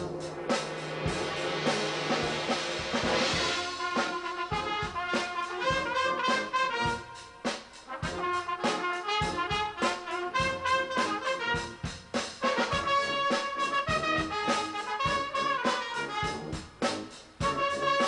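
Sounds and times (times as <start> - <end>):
brass band playing: 0.0 - 18.0
steady drum beat: 0.0 - 18.0.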